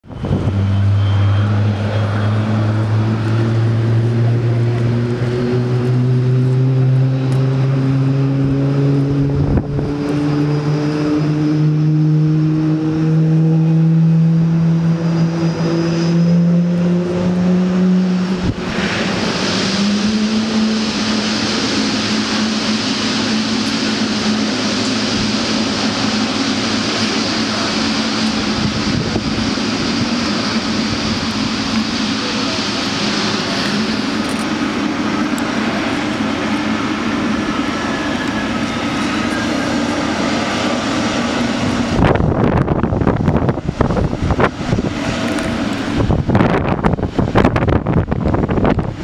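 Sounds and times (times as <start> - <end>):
jet engine rushing hiss: 0.0 - 49.0
jet engine spooling up: 0.0 - 49.0.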